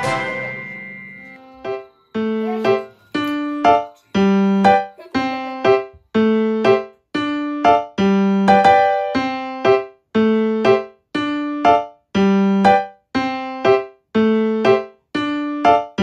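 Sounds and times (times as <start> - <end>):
simple keyboard tune: 0.0 - 16.0.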